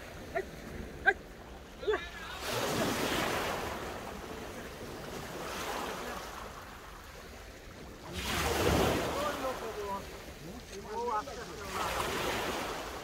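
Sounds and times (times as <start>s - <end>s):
waves washing up shingle beach: 0.0s - 13.0s.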